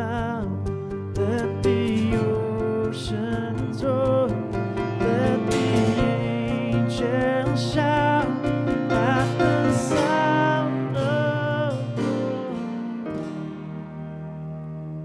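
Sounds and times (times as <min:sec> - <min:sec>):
guitar: 0:00.0 - 0:15.0
keyboard: 0:00.0 - 0:15.0
live band music: 0:00.0 - 0:15.0.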